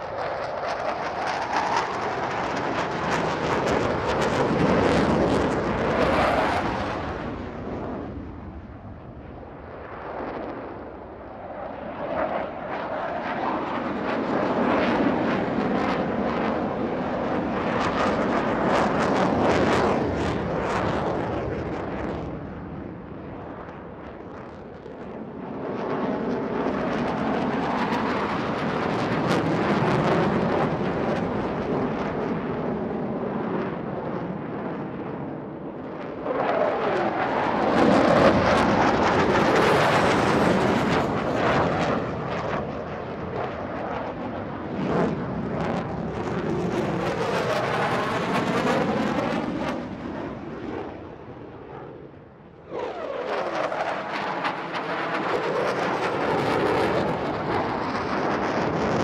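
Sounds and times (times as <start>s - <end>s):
airplanes flying low overhead: 0.0s - 59.0s.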